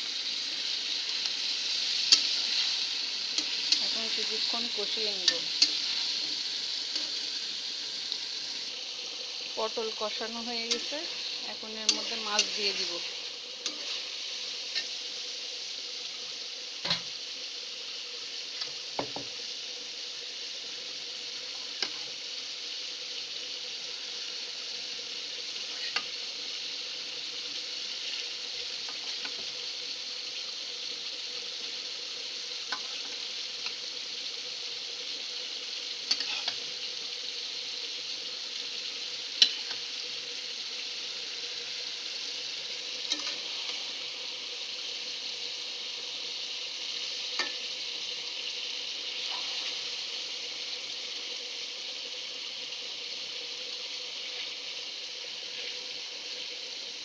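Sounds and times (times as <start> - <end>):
curry sizzling in oil: 0.0 - 57.0.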